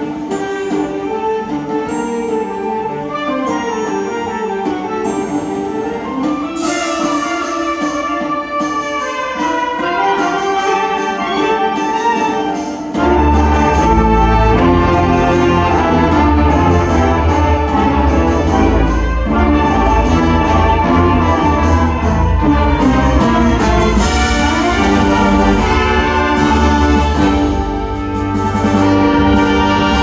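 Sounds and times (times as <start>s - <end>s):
wind ensemble playing: 0.0s - 30.0s
low brass: 0.2s - 30.0s.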